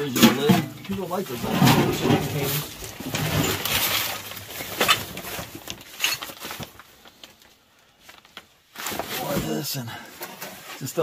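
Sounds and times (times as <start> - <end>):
rustling through boxes: 0.0 - 11.0.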